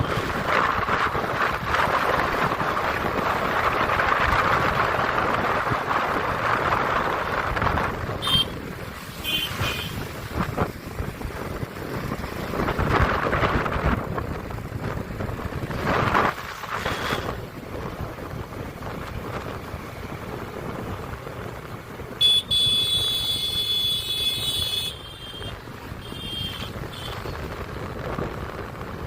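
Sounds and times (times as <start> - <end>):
wind rushing over microphone: 0.0 - 22.2, 24.5 - 29.0.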